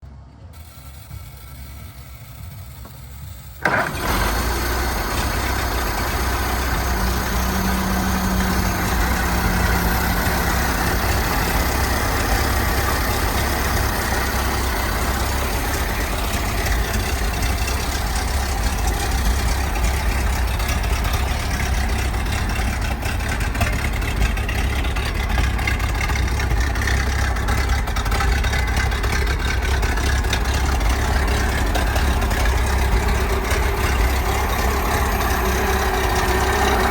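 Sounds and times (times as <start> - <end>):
truck engine starting and running: 0.0 - 36.9.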